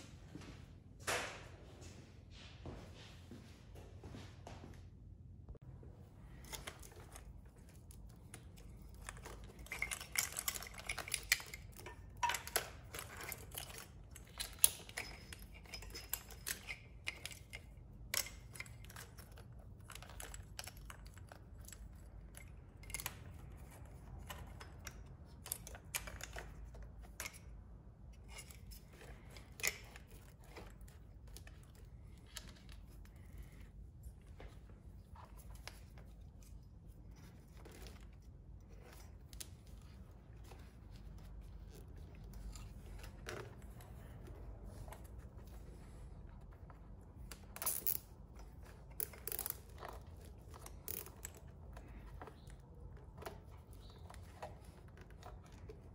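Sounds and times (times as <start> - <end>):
plastic and wire clicks and rustles: 6.1 - 55.9.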